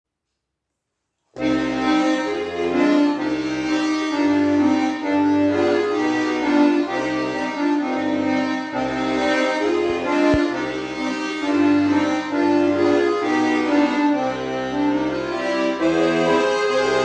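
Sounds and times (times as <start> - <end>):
button accordion folk melody: 1.4 - 17.0.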